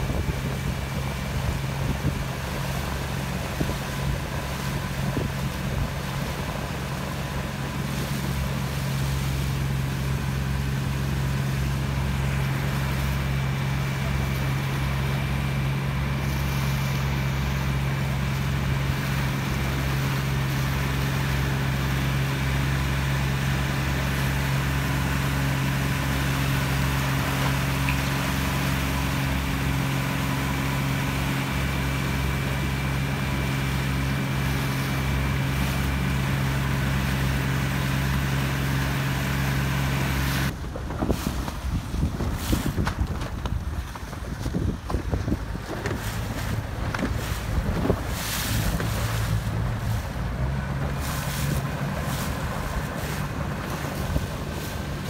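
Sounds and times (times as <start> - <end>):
motorboat engine droning: 0.0 - 55.0
wind and water rushing: 0.0 - 55.0.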